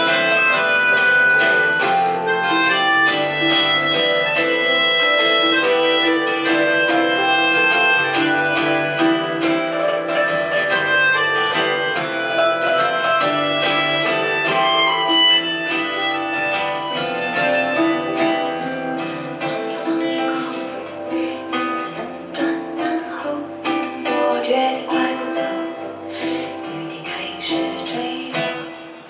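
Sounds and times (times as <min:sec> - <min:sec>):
instrumental guitar music: 0:00.0 - 0:29.0.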